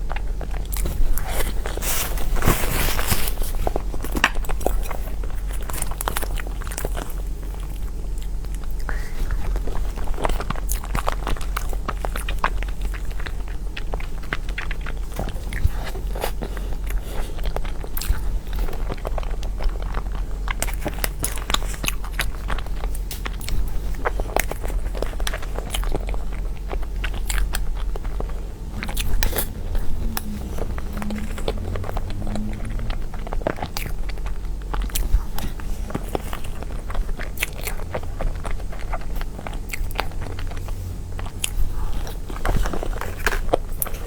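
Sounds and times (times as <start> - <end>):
chewing and biting cake: 0.0 - 44.0
steady low hum: 0.0 - 44.0.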